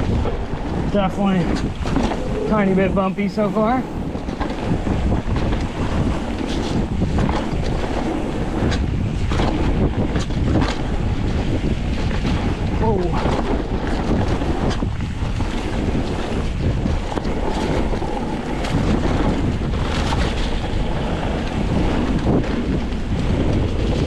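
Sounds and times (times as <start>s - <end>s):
bike tyres rumbling: 0.0s - 24.0s
wind buffeting microphone: 0.0s - 24.0s.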